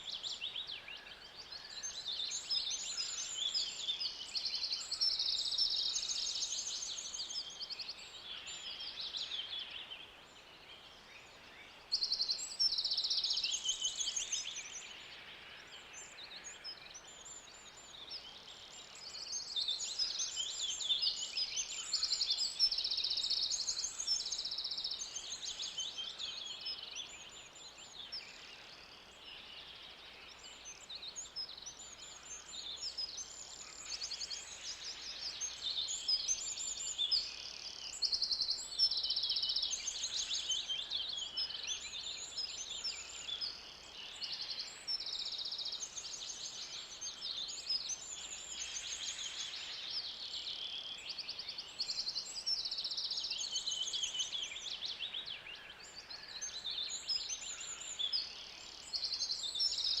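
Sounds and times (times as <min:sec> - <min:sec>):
birds chorus trilling and chirping: 0:00.0 - 1:00.0.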